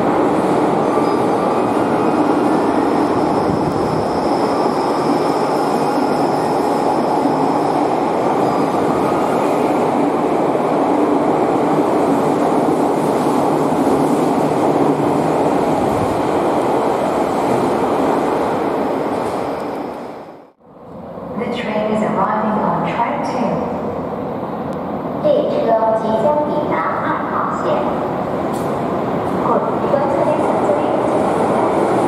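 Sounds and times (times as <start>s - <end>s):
subway train rumble: 0.0s - 32.0s.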